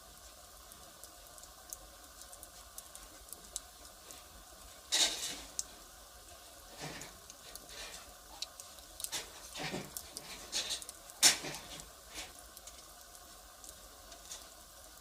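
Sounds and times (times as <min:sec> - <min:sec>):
faint steady hiss: 0:00.0 - 0:15.0
wood fire crackling: 0:00.0 - 0:15.0.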